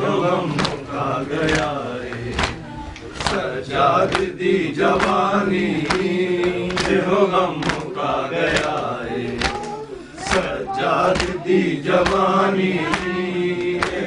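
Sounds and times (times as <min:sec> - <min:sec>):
men chanting together: 0:00.0 - 0:14.0.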